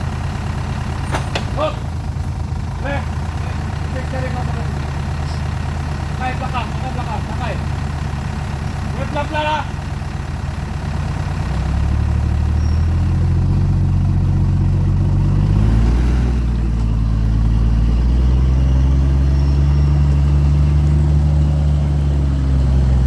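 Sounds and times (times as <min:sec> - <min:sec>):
vehicle engine revving under load: 0:00.0 - 0:23.0.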